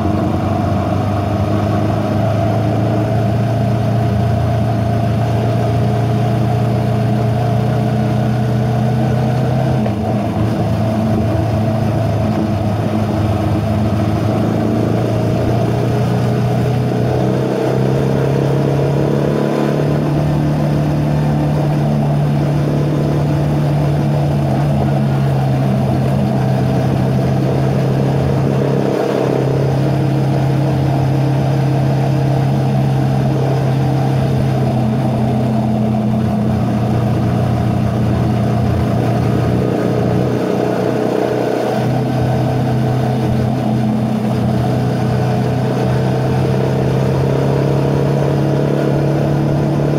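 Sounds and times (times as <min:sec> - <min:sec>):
motorcycle engine droning: 0:00.0 - 0:49.9.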